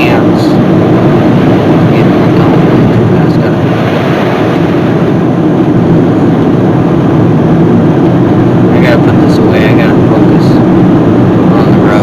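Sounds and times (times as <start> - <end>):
car engine rumble: 0.0 - 12.0
wind noise: 0.0 - 12.0.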